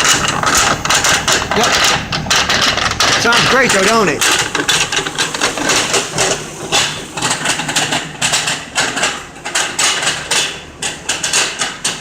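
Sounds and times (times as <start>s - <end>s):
drive shaft clunking and rattling: 0.0s - 12.0s.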